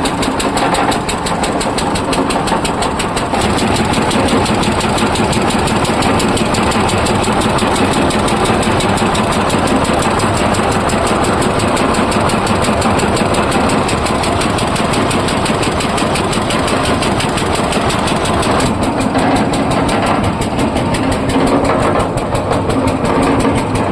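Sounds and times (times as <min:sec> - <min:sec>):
rapid even knocking: 0:00.0 - 0:23.9
tractor engine running: 0:00.0 - 0:23.9.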